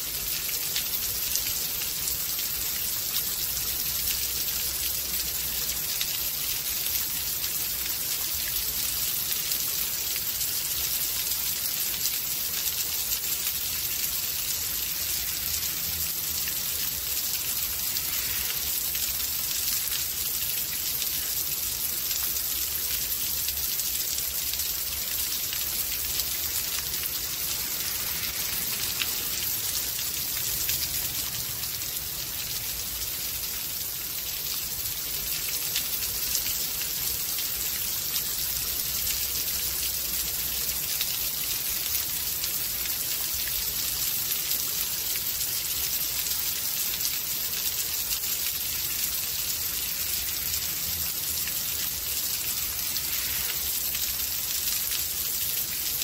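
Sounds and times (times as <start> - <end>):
heavy rain hiss: 0.0 - 56.0.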